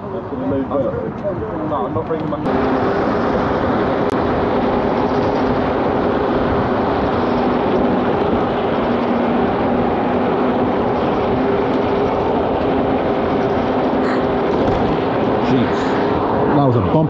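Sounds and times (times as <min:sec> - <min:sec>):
road noise: 0:00.0 - 0:17.0
wind rush: 0:00.0 - 0:17.0
low hum: 0:02.4 - 0:16.9.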